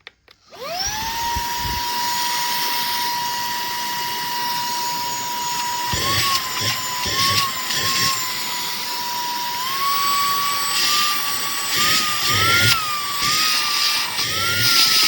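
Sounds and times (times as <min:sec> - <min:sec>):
handheld vacuum cleaner running: 0:00.4 - 0:15.0.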